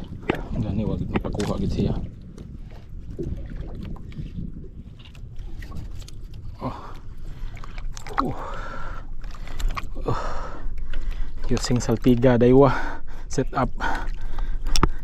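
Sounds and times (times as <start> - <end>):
low rumble of water and wind: 0.0 - 15.0.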